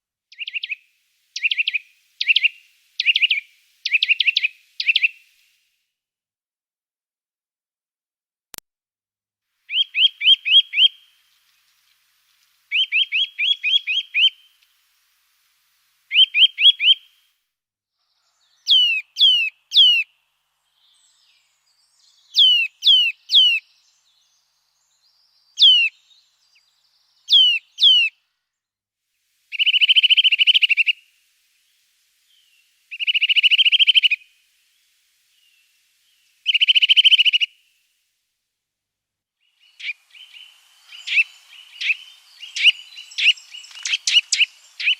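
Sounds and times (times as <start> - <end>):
songbird singing: 0.3 - 5.5, 9.7 - 17.3, 18.0 - 28.7, 29.4 - 38.1, 39.2 - 44.9.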